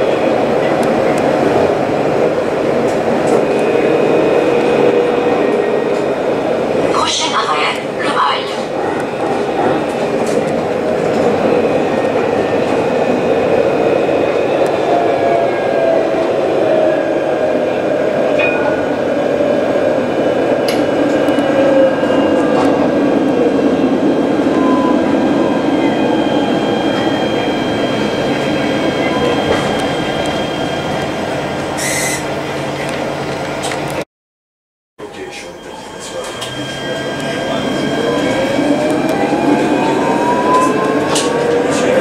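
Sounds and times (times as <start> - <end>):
tram wheels rolling on rails: 0.0 - 34.0, 35.1 - 42.0.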